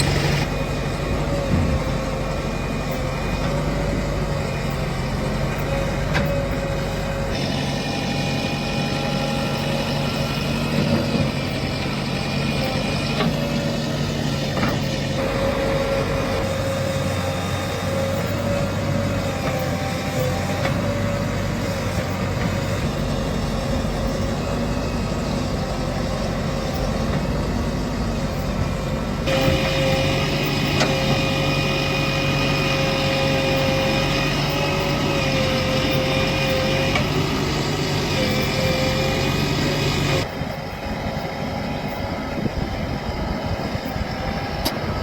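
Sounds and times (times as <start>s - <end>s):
heavy diesel engines running: 0.0s - 45.0s.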